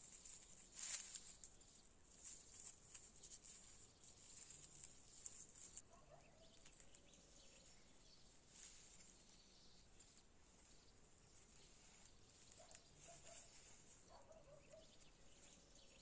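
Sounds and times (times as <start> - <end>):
faint rustling: 0.0 - 16.0.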